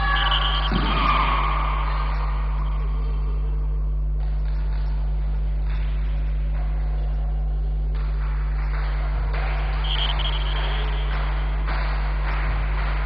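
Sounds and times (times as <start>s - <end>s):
faint background haze: 0.0s - 13.0s
steady low hum: 0.0s - 13.0s.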